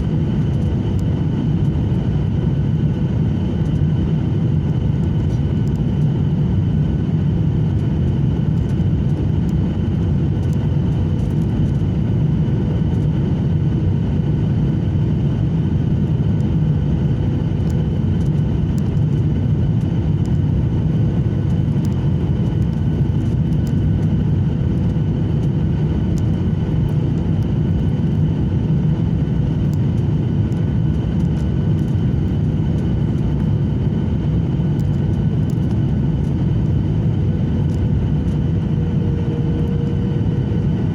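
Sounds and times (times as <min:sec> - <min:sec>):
airliner cabin rumble: 0:00.0 - 0:40.9
faint steady whine: 0:00.0 - 0:40.9.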